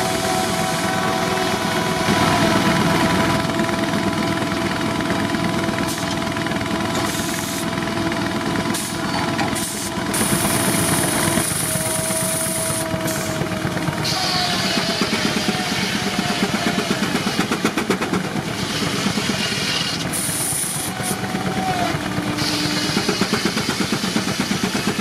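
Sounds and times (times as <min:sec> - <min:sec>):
steam sawmill running: 0:00.0 - 0:25.0.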